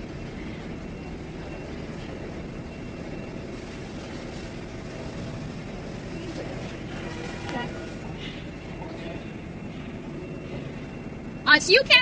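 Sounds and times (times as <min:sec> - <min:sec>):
factory machinery hum: 0:00.0 - 0:12.0.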